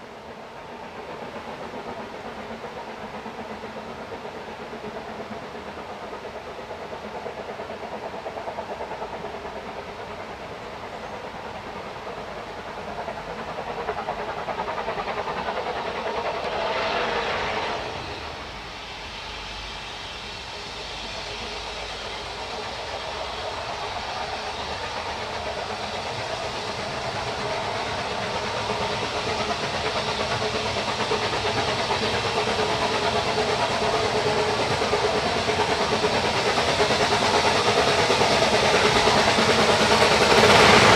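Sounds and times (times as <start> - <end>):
steam hiss rush: 0.0 - 40.9
steam train running: 0.0 - 40.9.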